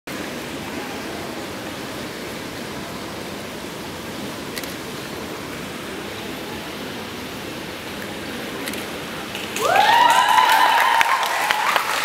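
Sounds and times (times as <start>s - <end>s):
swimming pool hall rushing noise: 0.1s - 12.0s.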